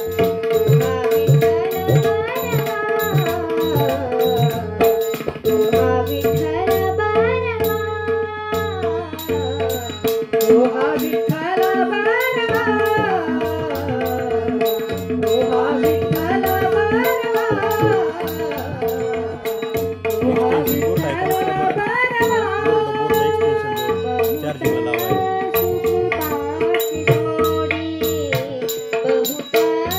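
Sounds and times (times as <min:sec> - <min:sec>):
girl singing: 0:00.0 - 0:29.9
tabla strokes: 0:00.0 - 0:29.9.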